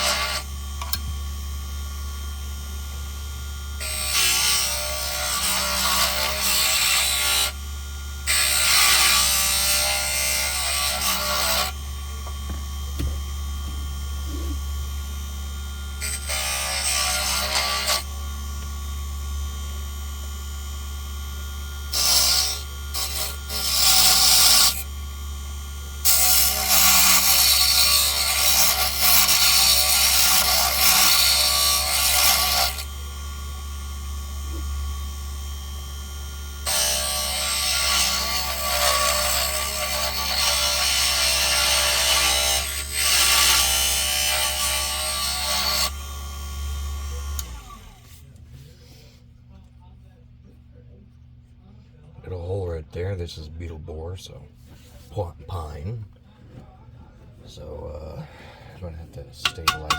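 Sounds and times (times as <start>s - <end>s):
lathe tool cutting wood: 0.0s - 48.2s, 59.4s - 59.9s
wood lathe motor humming: 0.0s - 48.2s.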